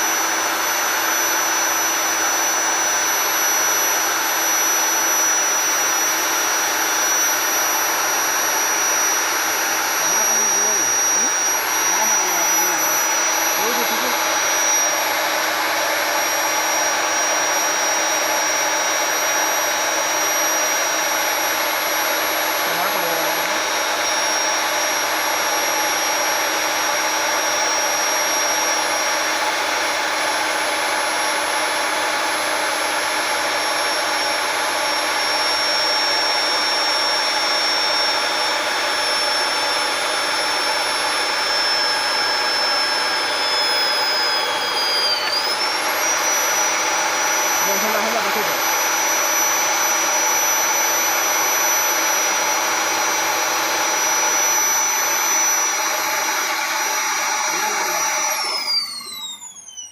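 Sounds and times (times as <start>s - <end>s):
electric drill whining: 0.0s - 59.9s.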